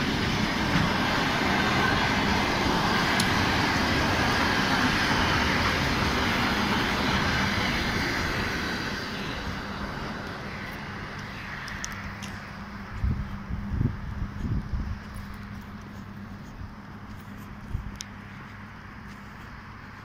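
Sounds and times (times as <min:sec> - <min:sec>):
electric train rumbling on tracks: 0:00.0 - 0:20.0.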